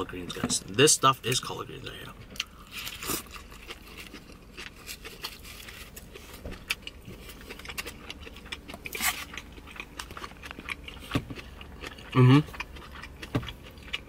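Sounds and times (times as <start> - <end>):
chewing and mouth clicks: 2.3 - 14.0.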